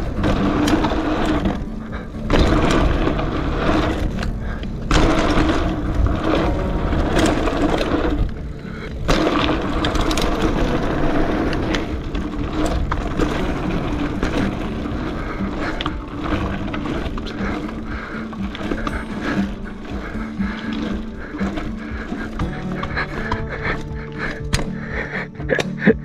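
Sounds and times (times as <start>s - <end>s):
bike rattling and knocking: 0.0s - 26.0s
bike tyres rolling over dirt: 0.0s - 26.0s.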